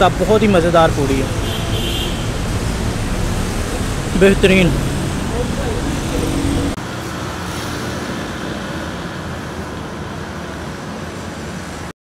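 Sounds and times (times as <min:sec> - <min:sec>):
road traffic noise: 0:00.0 - 0:11.9.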